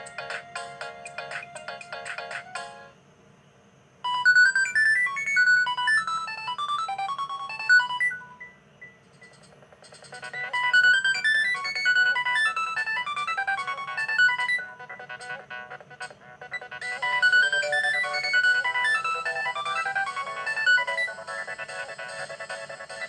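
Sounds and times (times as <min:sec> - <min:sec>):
phone ringtone melody: 0:00.0 - 0:02.9, 0:04.1 - 0:08.6, 0:10.2 - 0:23.0.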